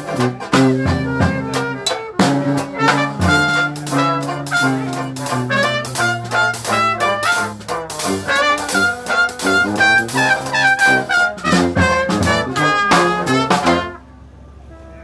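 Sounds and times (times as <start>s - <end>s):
strummed banjo: 0.0s - 14.0s
tuba bass notes: 0.0s - 14.0s
trumpet playing lead: 0.0s - 15.0s.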